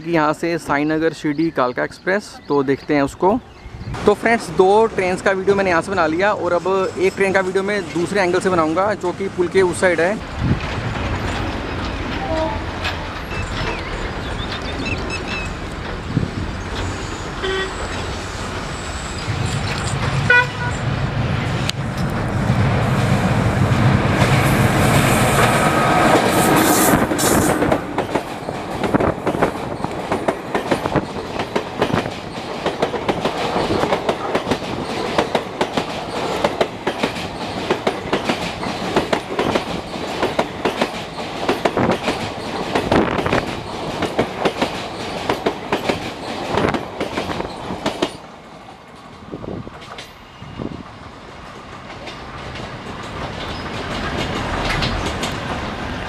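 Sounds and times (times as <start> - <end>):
electric locomotive passing: 3.4 - 56.0
train wheels clickety-clack: 4.0 - 18.7, 22.9 - 48.3, 48.9 - 50.2, 50.8 - 56.0.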